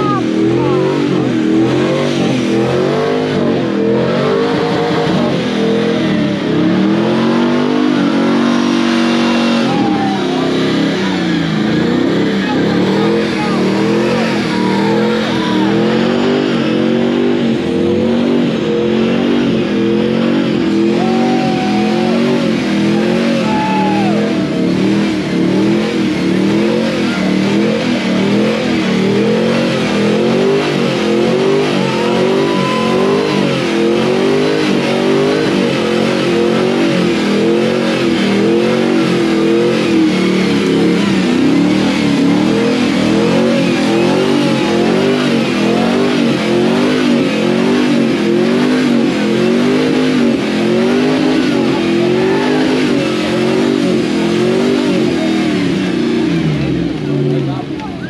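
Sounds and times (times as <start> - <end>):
car engine revving hard: 0.0 - 58.0.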